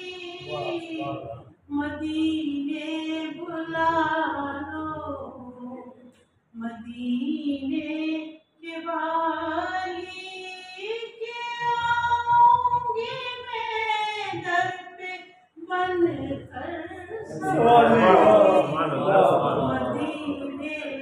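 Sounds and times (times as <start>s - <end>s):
woman singing unaccompanied: 0.0s - 1.1s, 1.7s - 18.6s, 19.6s - 21.0s.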